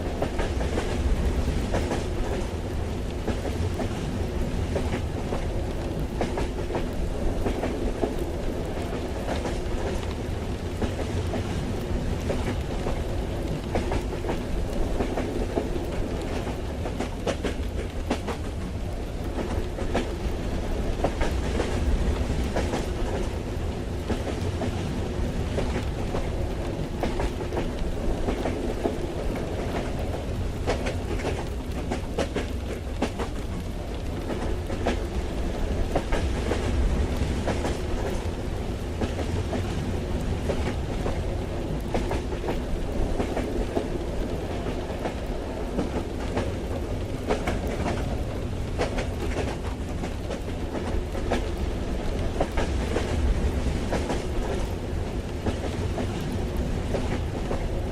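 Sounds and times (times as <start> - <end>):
rain on carriage: 0.0 - 57.9
train rumbling: 0.0 - 57.9.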